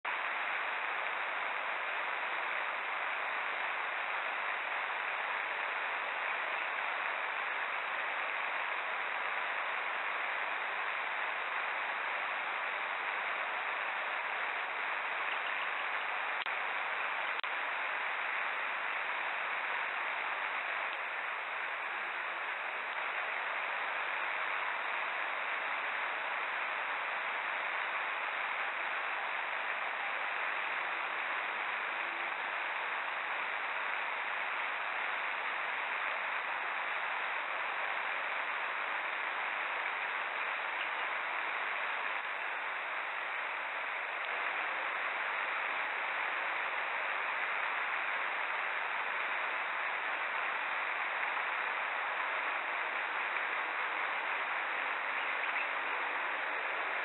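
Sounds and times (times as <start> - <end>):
pouring rain hiss: 0.1 - 57.0.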